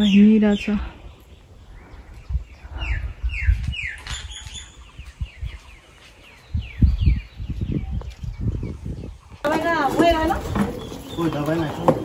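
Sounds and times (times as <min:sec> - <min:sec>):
birds calling with sliding notes: 0:00.0 - 0:12.0.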